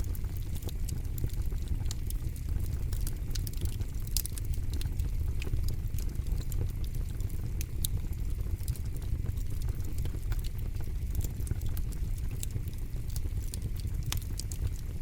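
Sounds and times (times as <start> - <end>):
burning wood crackling: 0.0 - 15.0
campfire rumble: 0.0 - 15.0.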